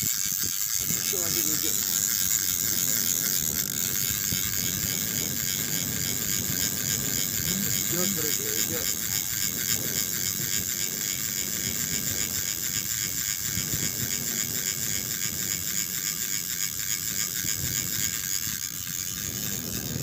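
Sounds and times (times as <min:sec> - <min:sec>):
fishing reel whirring: 0:00.0 - 0:20.0.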